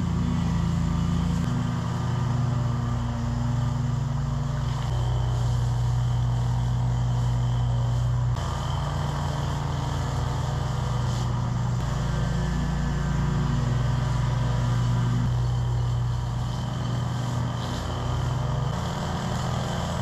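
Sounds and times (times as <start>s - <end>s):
mower engine droning: 0.0s - 20.0s.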